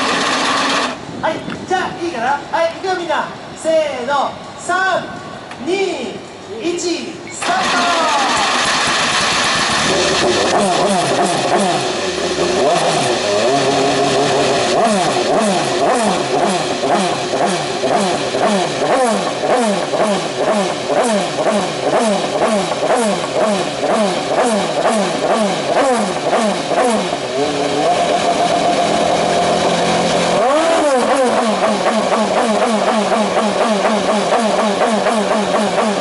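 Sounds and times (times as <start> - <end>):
race car engine revving: 0.0 - 1.1, 7.4 - 36.0.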